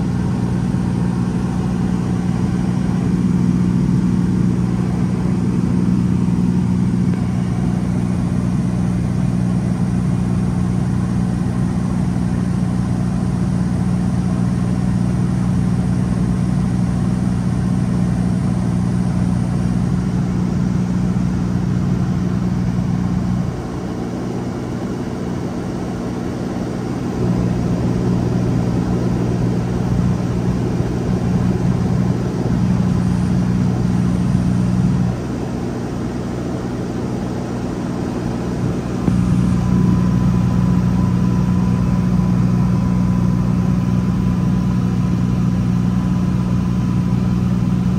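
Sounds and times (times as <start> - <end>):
airplane engine and propeller droning: 0.0 - 47.9.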